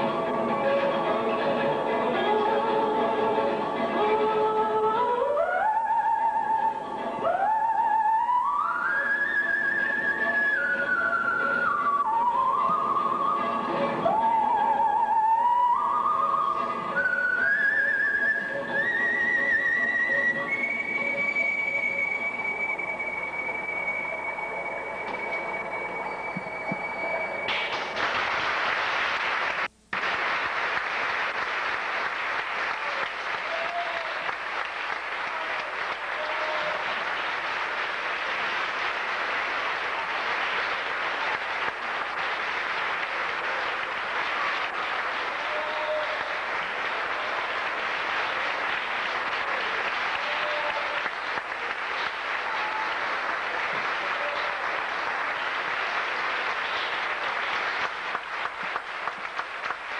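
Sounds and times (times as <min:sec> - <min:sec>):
audience applauding: 0:07.3 - 0:59.9.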